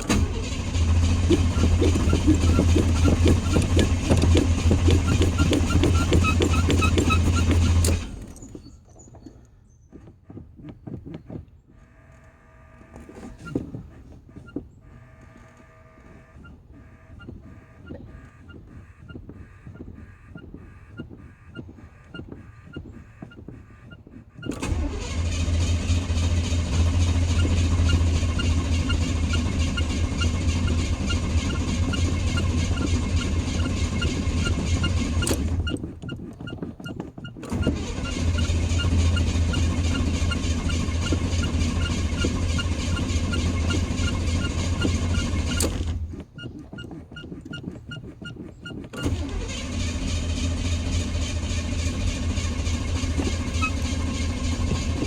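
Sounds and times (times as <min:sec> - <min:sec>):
truck engine cranking: 0:00.0 - 0:09.0, 0:19.5 - 0:55.0.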